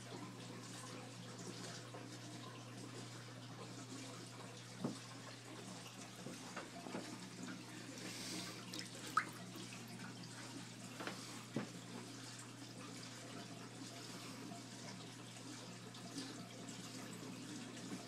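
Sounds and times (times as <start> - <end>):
aquarium filter water trickling: 0.0 - 18.0.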